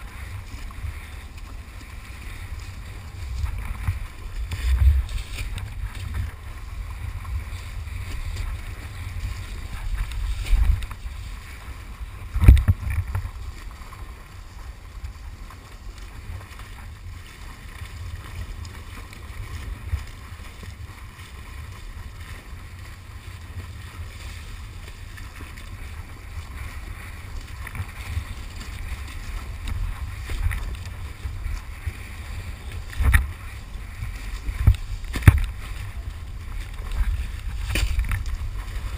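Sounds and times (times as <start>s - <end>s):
wind and water rumble: 0.0s - 38.9s.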